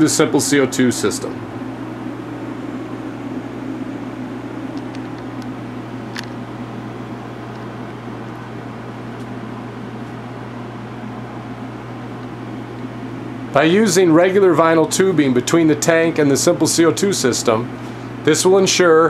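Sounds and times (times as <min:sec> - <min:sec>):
low hum: 0:00.0 - 0:16.6
electric fans whirring: 0:00.0 - 0:19.0.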